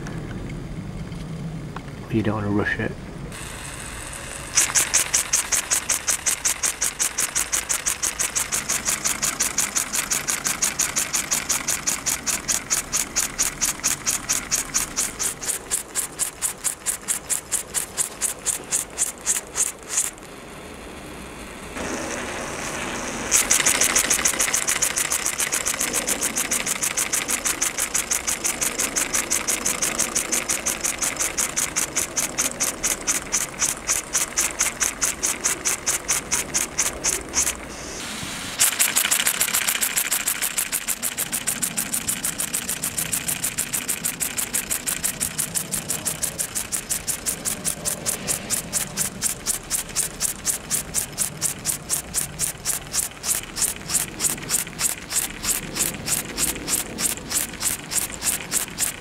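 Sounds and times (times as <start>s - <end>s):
steam hissing: 4.4s - 20.1s, 21.8s - 59.0s.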